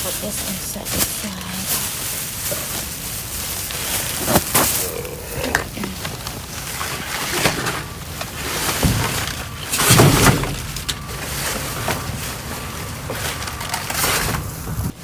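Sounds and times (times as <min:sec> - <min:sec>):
plastic bags crinkling: 0:00.0 - 0:14.7
items being shifted: 0:00.0 - 0:15.0.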